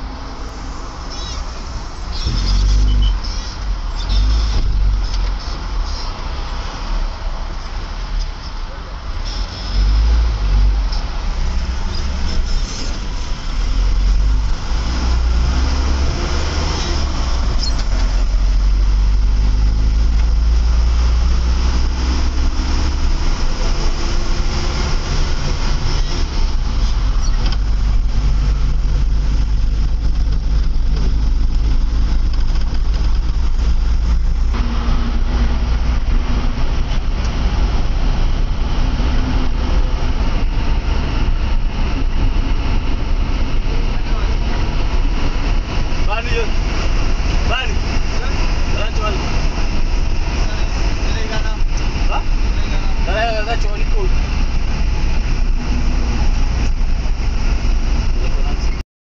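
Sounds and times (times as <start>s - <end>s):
deep vehicle engine rumble: 0.0s - 58.8s
road noise: 0.0s - 58.8s.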